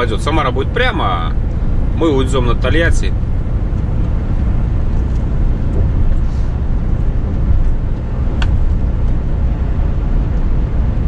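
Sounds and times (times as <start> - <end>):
truck engine and tyre drone: 0.0 - 11.0.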